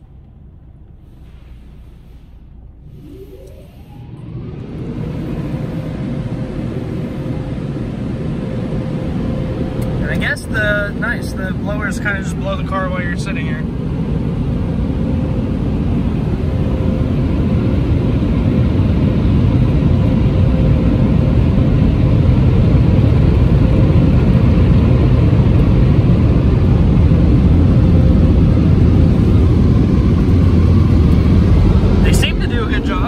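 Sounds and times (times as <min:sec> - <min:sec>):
dryer blowers blasting air: 0:00.0 - 0:33.0.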